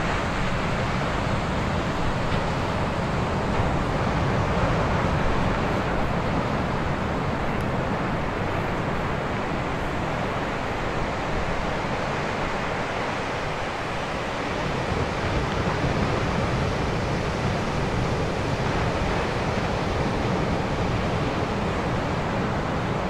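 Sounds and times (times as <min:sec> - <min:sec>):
surf washing onto beach: 0:00.0 - 0:23.0
wind rumbling on microphone: 0:00.0 - 0:23.0.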